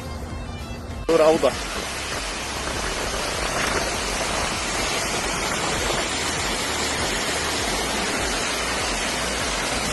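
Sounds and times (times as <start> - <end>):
rush of heavy water: 1.1 - 9.9.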